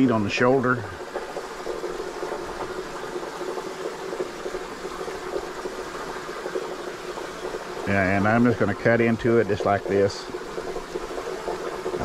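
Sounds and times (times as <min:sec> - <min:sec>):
aerator bubbling water: 0:00.0 - 0:12.0.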